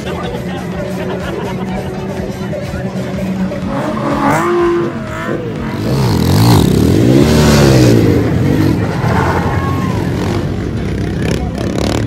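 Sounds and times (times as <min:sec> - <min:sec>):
engine revving: 0:00.7 - 0:12.0.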